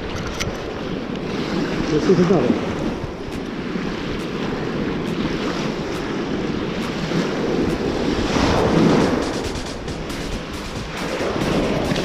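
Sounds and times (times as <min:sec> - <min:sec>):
ocean surf washing on beach: 0:00.0 - 0:12.0
wind buffeting microphone: 0:00.0 - 0:12.0.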